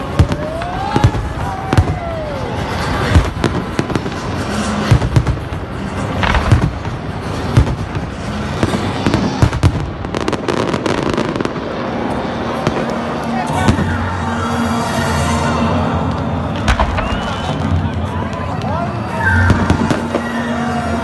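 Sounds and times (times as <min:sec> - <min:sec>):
fireworks bangs: 0:00.0 - 0:15.2, 0:16.0 - 0:21.0
fireworks crackle and hiss: 0:00.0 - 0:21.0.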